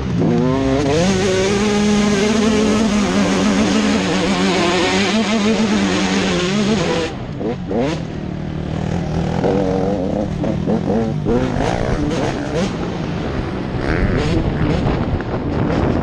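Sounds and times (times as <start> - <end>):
motocross motorcycle engines revving: 0.0 - 16.0.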